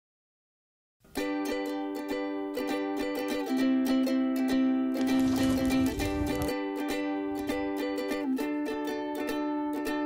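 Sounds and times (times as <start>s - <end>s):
plucked string music: 1.0s - 10.0s.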